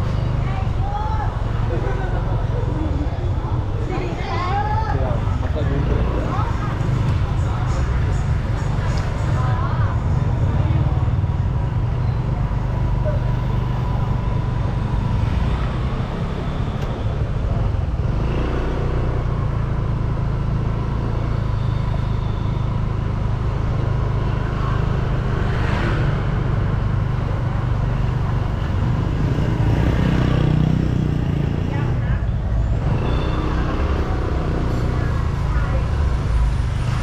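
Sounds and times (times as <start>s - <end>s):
cars and motorcycles running: 0.0s - 37.0s.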